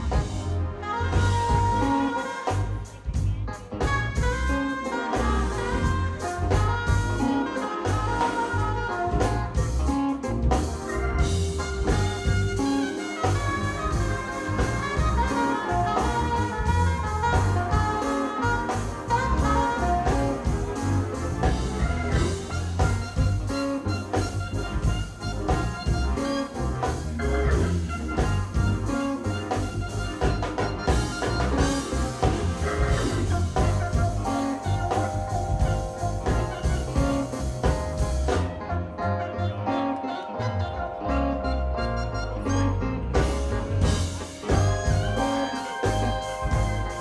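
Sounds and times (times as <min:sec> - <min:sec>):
steady drumbeat: 0:00.0 - 0:38.6, 0:43.1 - 0:47.0
electric bass line: 0:00.0 - 0:47.0
keyboard: 0:00.0 - 0:47.0
saxophone: 0:00.0 - 0:47.0.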